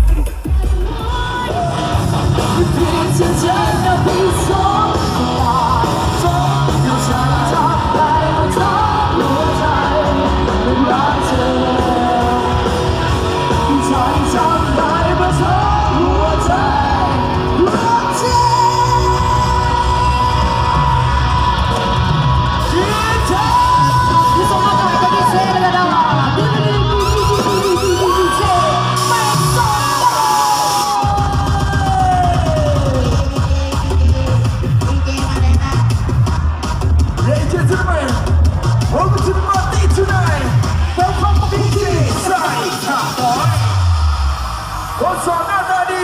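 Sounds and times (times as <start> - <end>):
loud music with singer: 0.0 - 46.0
crowd yelling: 0.9 - 46.0.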